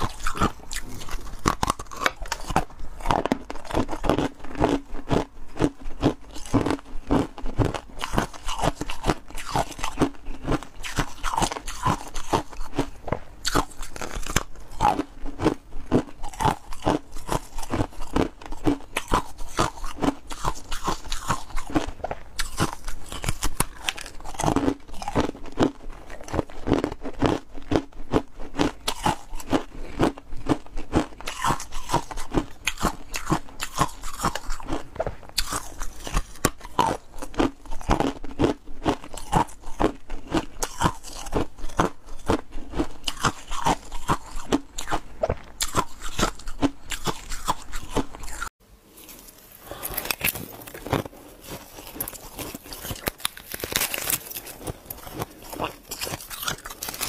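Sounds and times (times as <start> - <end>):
person chewing crunchy frost: 0.0 - 57.0.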